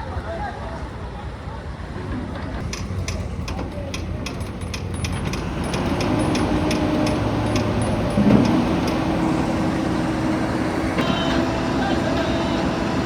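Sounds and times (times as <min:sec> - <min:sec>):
heavy vehicle engine rumbling: 0:01.6 - 0:13.0.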